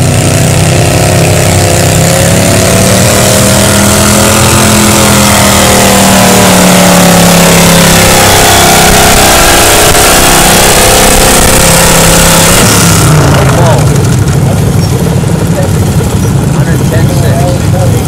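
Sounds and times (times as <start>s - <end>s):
tractor engine running loudly: 0.0s - 18.0s.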